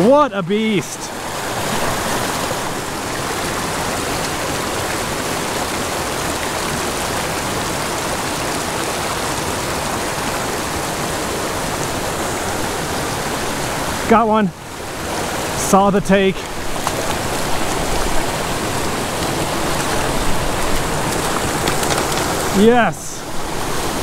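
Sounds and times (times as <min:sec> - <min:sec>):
creek rushing over rocks: 0:00.0 - 0:24.0.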